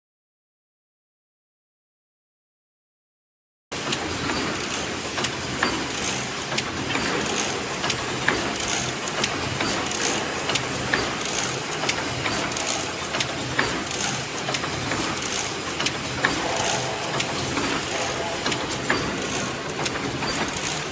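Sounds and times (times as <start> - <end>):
fence weaving machine clattering: 3.8 - 20.9
sharp rhythmic clicks: 3.8 - 20.9.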